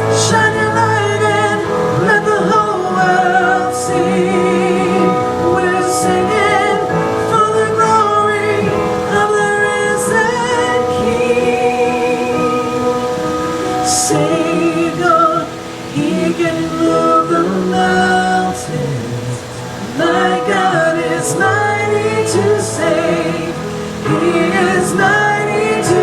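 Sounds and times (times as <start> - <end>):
woman singing with vibrato: 0.0 - 26.0.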